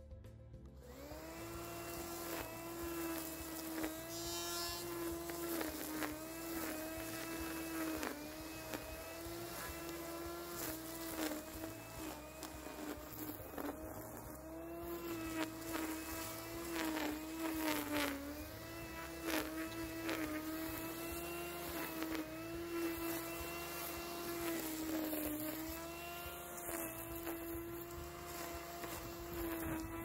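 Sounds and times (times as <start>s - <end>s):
string trimmer cutting grass: 0.0s - 30.0s.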